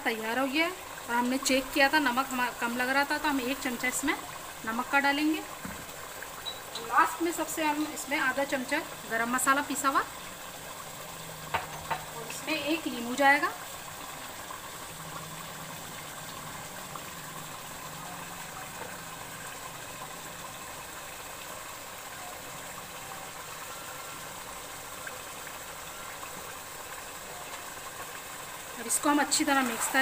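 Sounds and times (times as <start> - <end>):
stew bubbling in a pot: 0.0 - 30.0.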